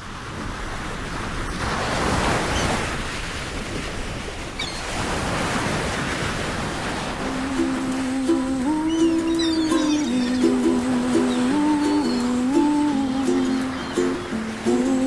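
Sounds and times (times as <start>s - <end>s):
ocean waves: 0.0s - 15.0s.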